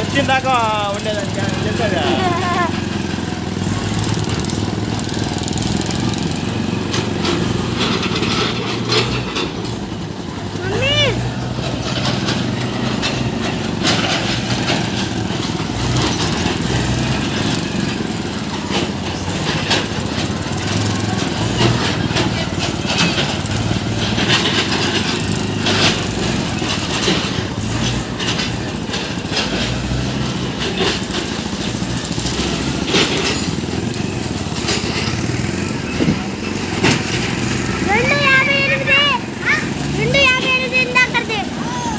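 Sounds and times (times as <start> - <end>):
voices of onlookers: 0.0 - 29.4, 31.3 - 41.9
tractor diesel engine running: 0.0 - 41.9.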